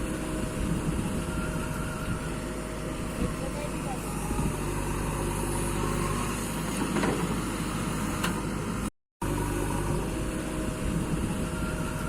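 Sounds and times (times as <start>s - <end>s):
machinery engine humming: 0.0s - 12.0s.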